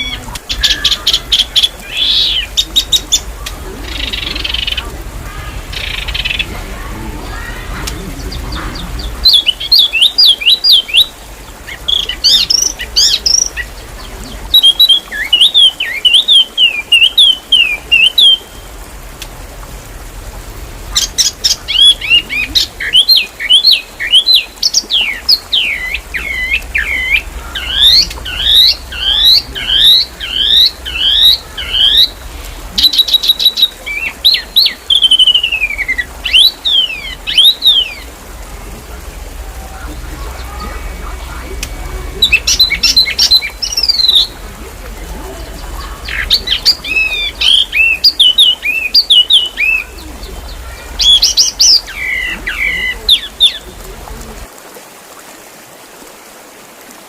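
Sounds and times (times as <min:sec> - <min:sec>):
songbird singing rapid chirps: 0:00.0 - 0:55.1.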